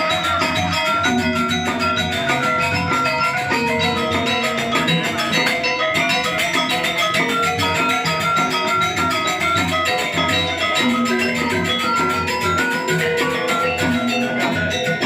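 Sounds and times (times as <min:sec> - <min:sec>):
gamelan playing: 0:00.0 - 0:15.0.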